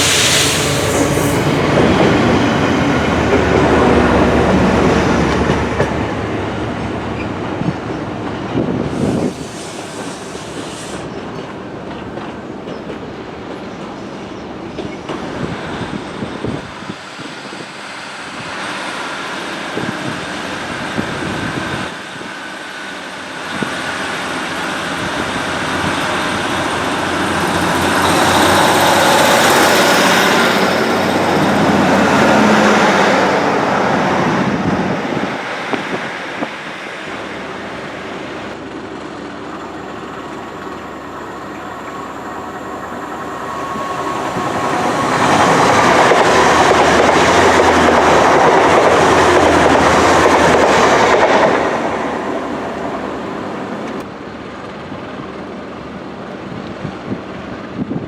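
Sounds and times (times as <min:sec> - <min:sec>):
train running past: 0:00.0 - 0:58.0.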